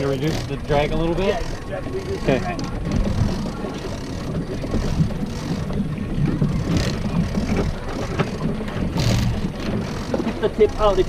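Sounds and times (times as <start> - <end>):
boat engine low rumble: 0.0 - 11.0
water noise: 0.0 - 11.0
wind buffeting microphone: 0.0 - 11.0.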